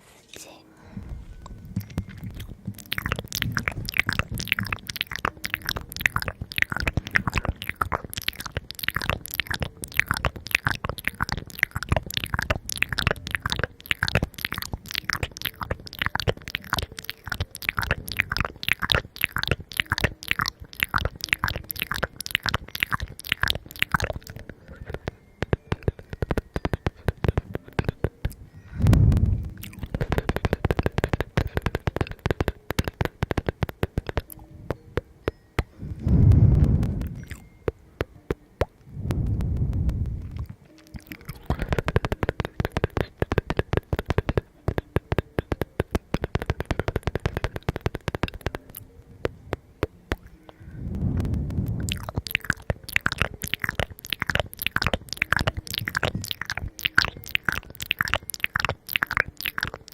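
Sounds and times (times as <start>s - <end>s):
crunching of crisp food being chewed: 1.1s - 38.8s, 39.8s - 50.6s, 51.3s - 59.9s.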